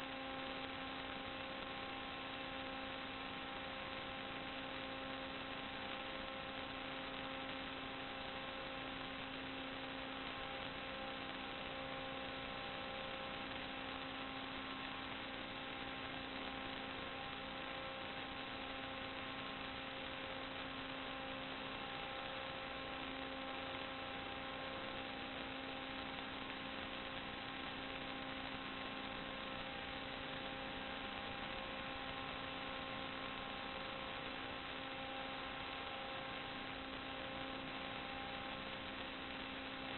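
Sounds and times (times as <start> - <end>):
constant hiss: 0.0 - 39.9
electrical hum: 0.0 - 39.9.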